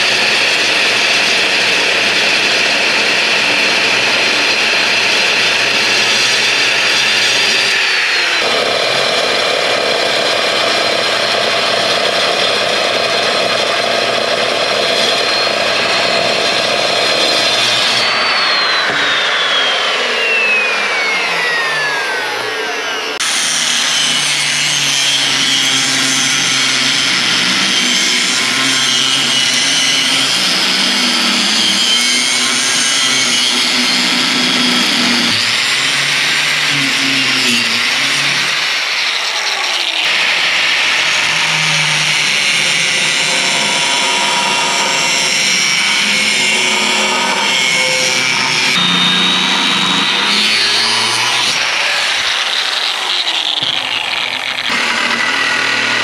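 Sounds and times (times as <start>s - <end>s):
power tool cutting steel plate: 0.0s - 56.0s.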